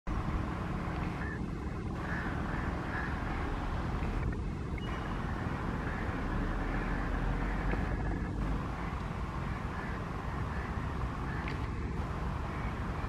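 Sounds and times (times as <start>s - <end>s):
wind noise on microphone: 0.1s - 13.0s.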